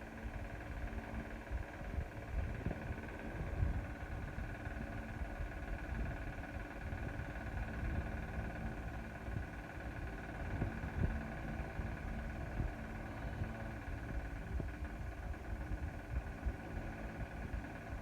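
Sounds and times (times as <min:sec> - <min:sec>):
motor rumbling: 0:00.0 - 0:18.0.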